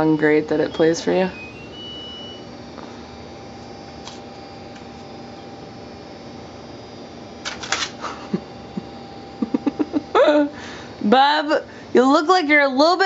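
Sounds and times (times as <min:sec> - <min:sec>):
appliance humming: 0:00.0 - 0:13.0.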